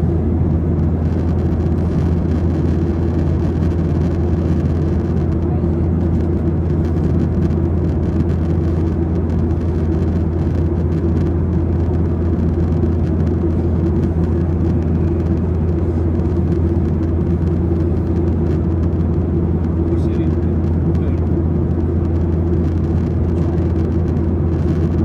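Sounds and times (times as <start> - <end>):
vehicle rumbling drone: 0.0 - 25.0.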